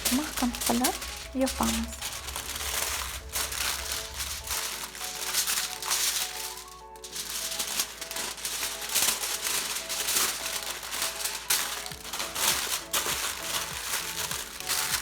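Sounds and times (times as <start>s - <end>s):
aluminium foil crinkling: 0.0s - 15.0s
soft background music: 0.0s - 15.0s.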